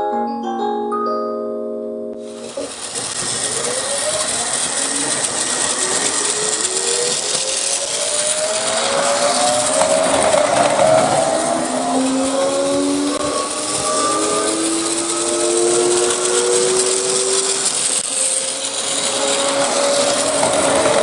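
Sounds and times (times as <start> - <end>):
traction motor whine: 2.3 - 21.0
train wheels rumbling: 2.4 - 21.0.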